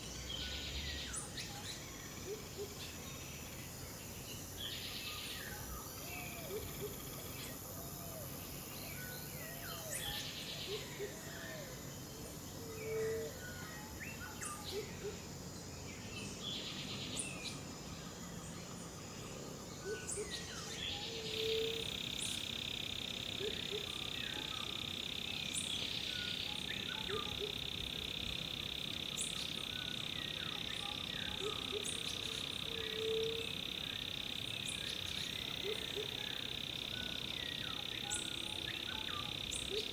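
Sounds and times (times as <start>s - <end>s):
frogs calling: 0.0s - 15.8s, 19.7s - 39.9s
continuous insect buzz: 0.0s - 39.9s
insects chorus: 0.0s - 39.9s.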